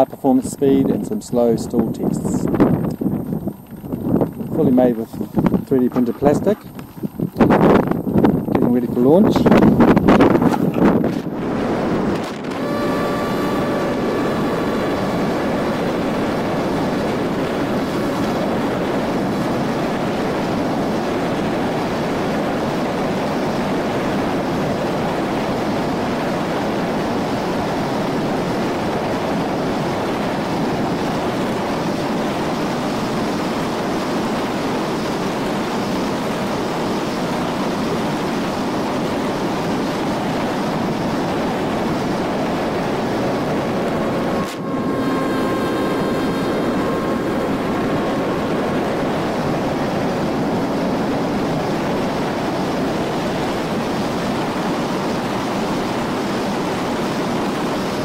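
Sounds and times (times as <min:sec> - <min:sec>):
drone propeller noise: 0:00.0 - 0:58.0
faint electric motor whine: 0:00.0 - 0:58.0.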